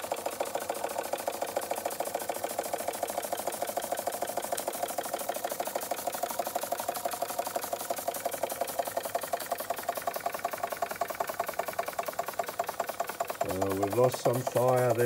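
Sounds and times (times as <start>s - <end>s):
toy steam engine running: 0.0s - 15.0s.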